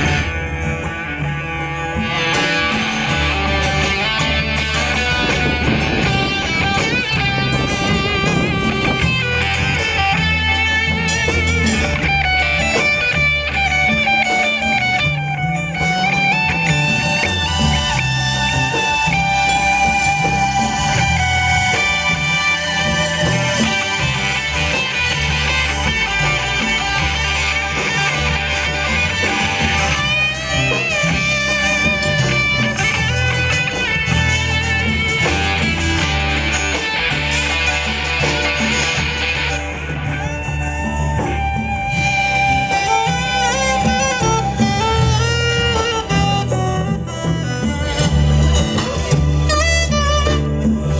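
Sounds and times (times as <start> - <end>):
electric guitar lead with vibrato: 0.0 - 50.9
low bass notes: 0.0 - 50.9.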